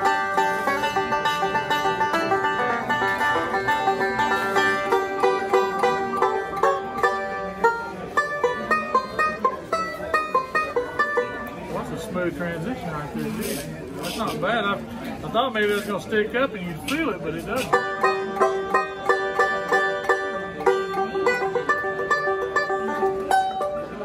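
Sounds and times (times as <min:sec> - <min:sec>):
banjo fingerpicked: 0:00.0 - 0:24.0.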